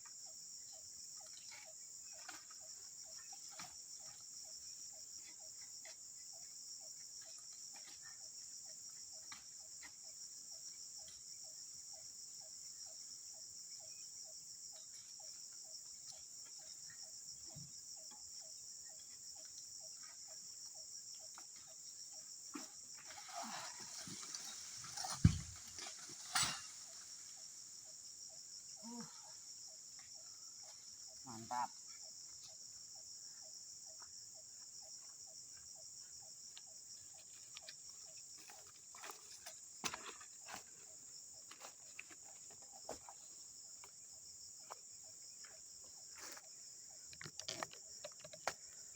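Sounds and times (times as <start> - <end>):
insects buzzing: 0.0 - 48.9
soft pulsing insect call: 0.0 - 48.9.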